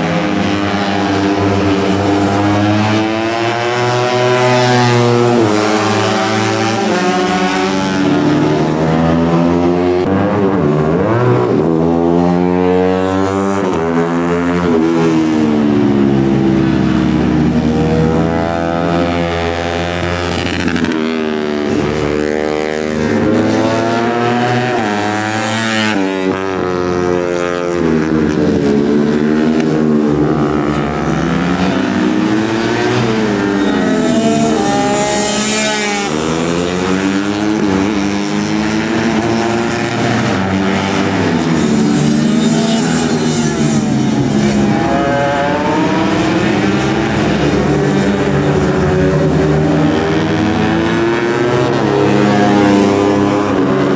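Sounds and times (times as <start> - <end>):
race motorcycles high-revving: 0.0 - 53.9.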